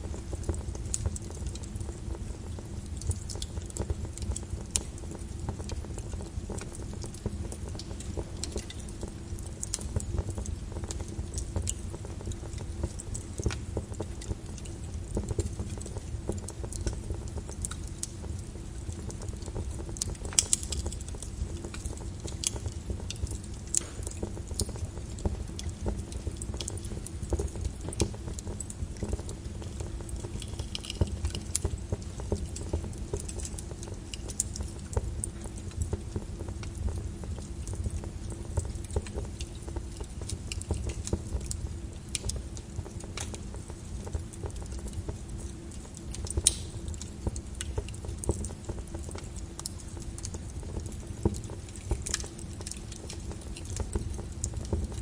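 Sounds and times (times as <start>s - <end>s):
lava crackling and clinking: 0.0s - 55.0s.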